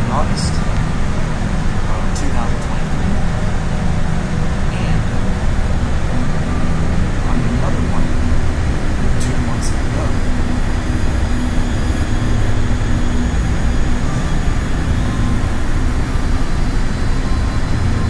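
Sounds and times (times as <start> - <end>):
loud rumbling with low hum: 0.0 - 18.0.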